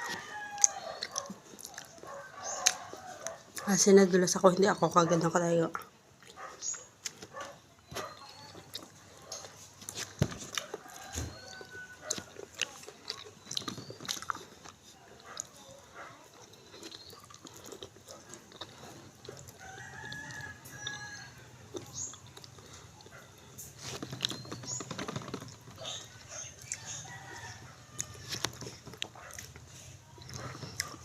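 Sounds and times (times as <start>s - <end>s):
crunching and chewing food: 0.0s - 31.0s.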